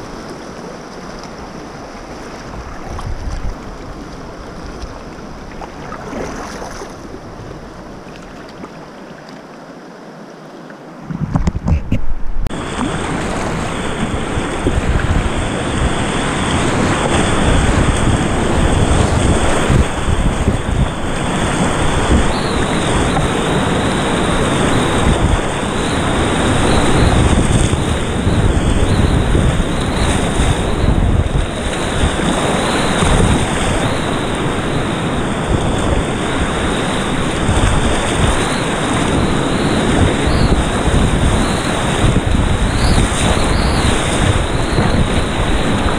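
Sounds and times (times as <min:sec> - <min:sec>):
whitewater rapids roaring: 0:00.0 - 0:11.1, 0:12.5 - 0:45.9
wind buffeting microphone: 0:01.1 - 0:08.4, 0:11.0 - 0:45.9.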